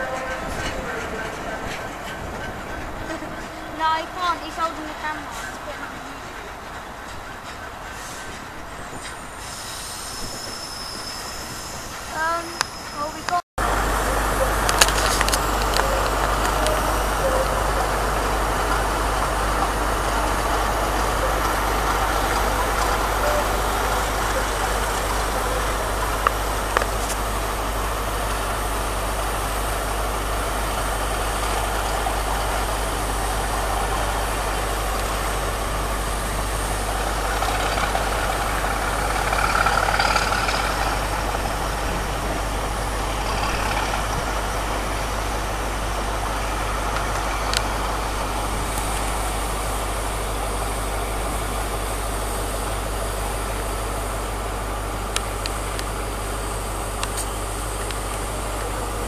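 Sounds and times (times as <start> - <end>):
diesel train engine idling: 0.0 - 59.0.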